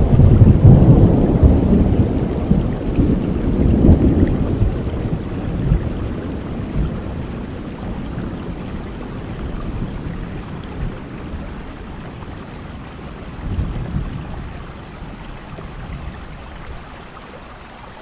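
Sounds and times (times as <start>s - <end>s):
thunder rumble: 0.0s - 16.9s
steady rainfall: 0.0s - 18.0s.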